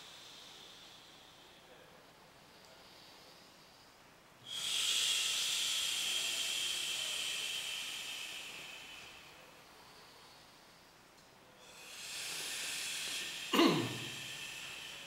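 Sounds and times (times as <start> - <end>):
long hissing breath out: 0.0 - 15.0.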